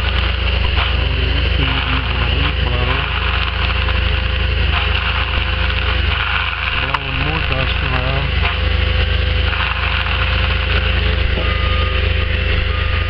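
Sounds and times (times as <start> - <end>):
leaf blower engine: 0.0 - 13.0
loader engine running: 0.0 - 13.0.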